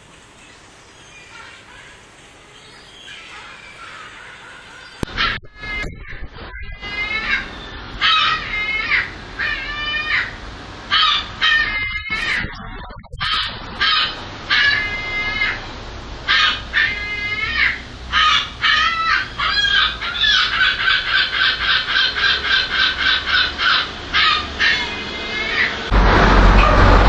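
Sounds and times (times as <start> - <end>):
gull calling: 2.9 - 15.6, 16.3 - 25.9.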